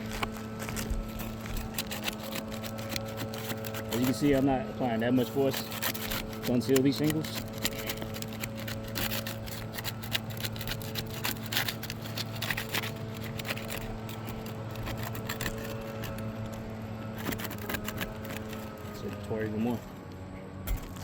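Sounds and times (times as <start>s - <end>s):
putty knife scraping shingles: 0.0s - 20.0s
shingle tearing: 0.0s - 21.0s
steady low hum: 0.0s - 21.0s.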